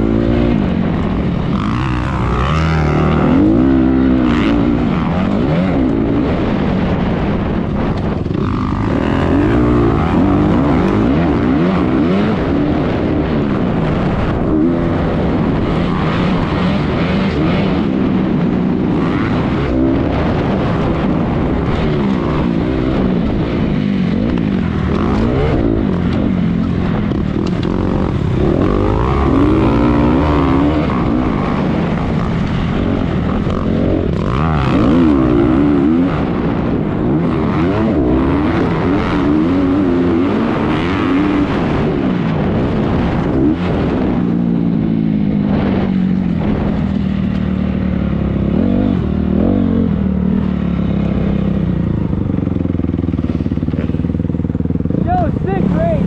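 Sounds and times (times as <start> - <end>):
constant rushing noise: 0.0 - 56.0
motocross bike engine revving: 0.0 - 56.0.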